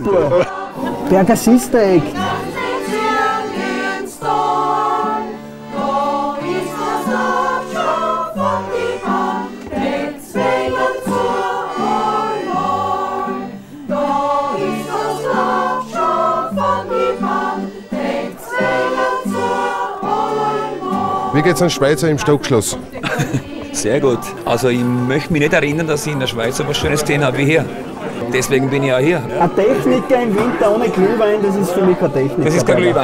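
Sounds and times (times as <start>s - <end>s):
small choir singing: 0.0s - 33.0s.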